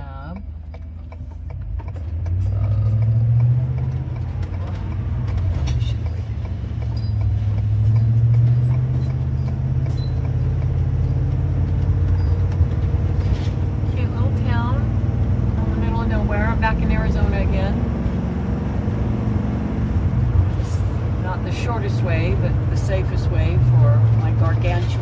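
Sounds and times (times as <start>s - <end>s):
engine drone: 0.0s - 25.0s
road and tyre noise: 0.0s - 25.0s.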